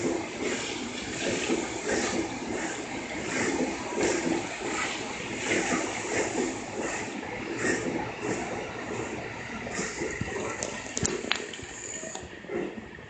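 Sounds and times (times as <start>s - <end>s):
train wheel clacks: 0.0s - 12.8s
electric train running on rails: 0.0s - 13.0s.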